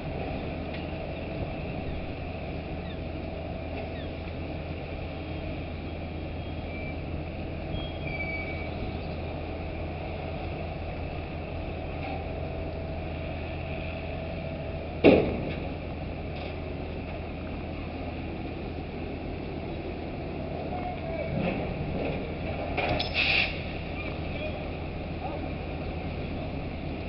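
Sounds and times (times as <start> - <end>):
crane machinery drone: 0.0 - 27.0.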